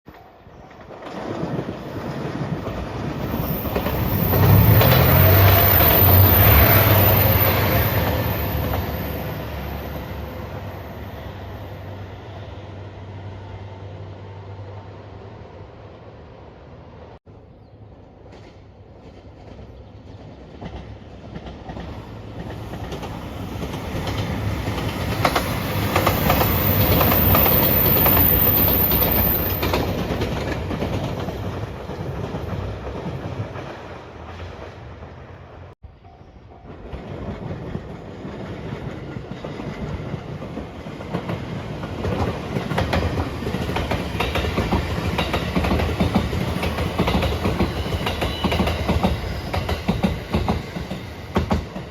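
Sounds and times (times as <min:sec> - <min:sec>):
diesel train passing: 0:00.2 - 0:51.9.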